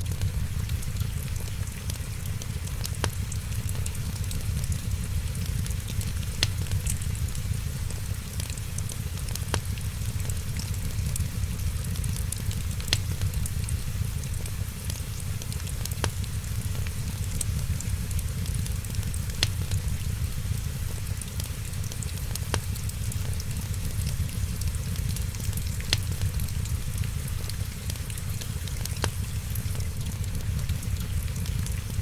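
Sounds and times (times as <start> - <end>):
fire popping: 0.0 - 32.0
wood fire crackling: 0.0 - 32.0.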